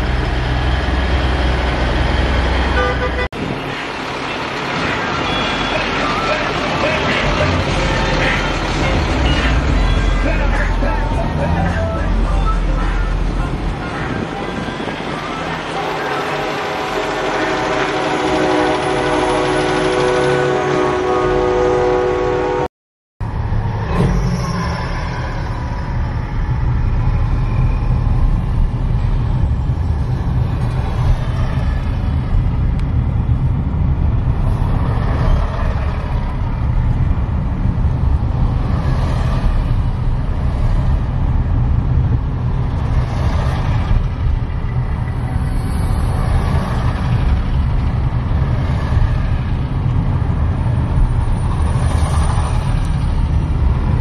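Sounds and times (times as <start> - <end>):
tyre and traffic noise: 0.0 - 21.8, 23.2 - 54.0
truck engines rumbling: 0.0 - 22.6, 23.2 - 54.0.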